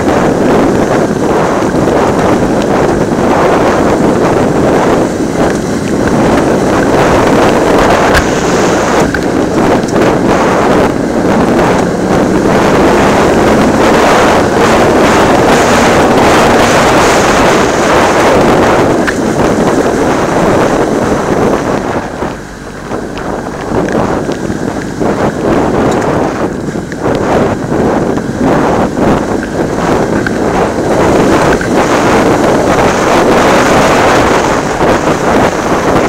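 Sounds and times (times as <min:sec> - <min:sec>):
tyres on gravel: 0:00.0 - 0:34.6
motorcycle engine: 0:00.0 - 0:36.0
wind buffeting microphone: 0:00.0 - 0:36.0.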